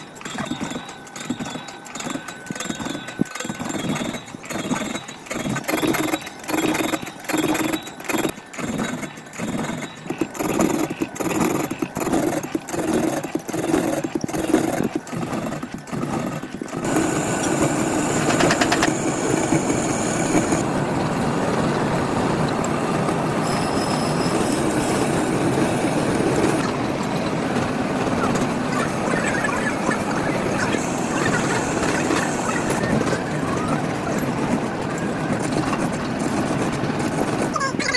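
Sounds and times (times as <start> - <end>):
heavy factory machinery noise: 0.0 - 37.9.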